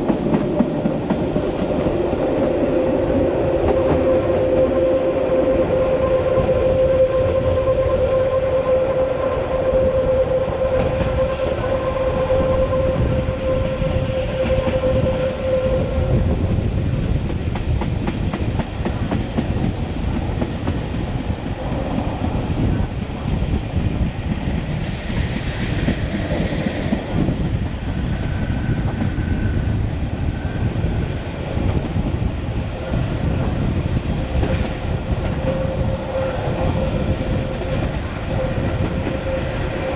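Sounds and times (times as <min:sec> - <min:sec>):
train rumble and rail clatter: 0:00.0 - 0:39.9.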